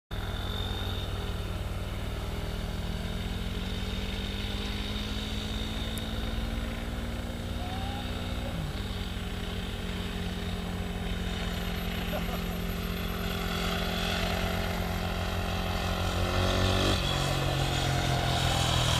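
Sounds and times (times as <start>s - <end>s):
engine drone: 0.1s - 18.9s.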